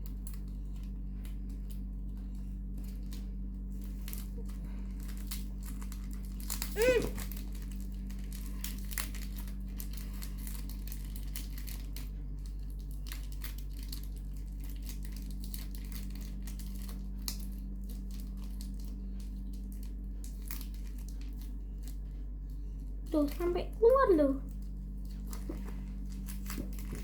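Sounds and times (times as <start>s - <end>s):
steady low hum: 0.0s - 27.0s
packaging crinkling: 0.4s - 22.1s, 24.4s - 27.0s.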